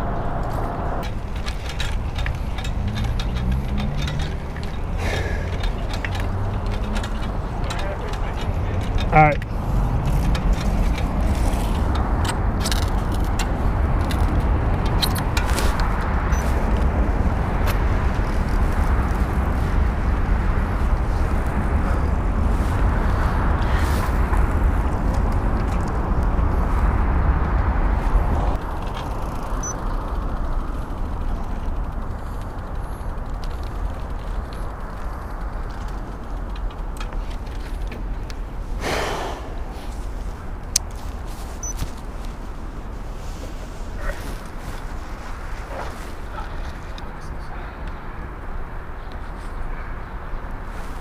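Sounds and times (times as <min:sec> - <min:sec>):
bicycle tyre noise: 0:00.0 - 0:46.9
street traffic: 0:00.0 - 0:51.0
wind rushing over microphone: 0:00.0 - 0:51.0.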